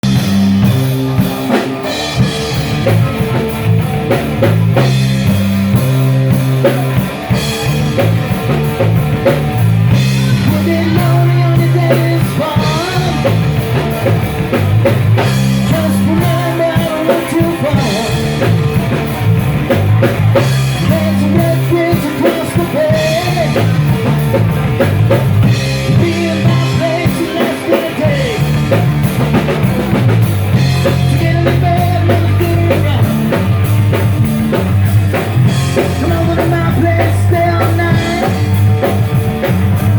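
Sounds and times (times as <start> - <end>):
rock music: 0.0 - 39.9.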